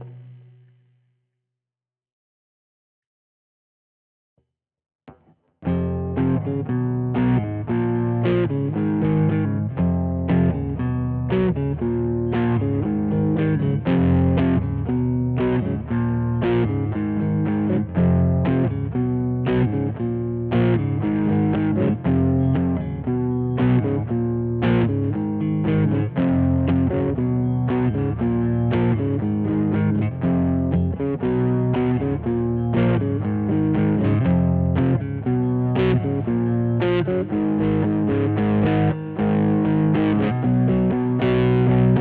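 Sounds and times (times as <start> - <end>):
electric guitar chords and notes: 0.0 - 0.8, 5.1 - 42.0.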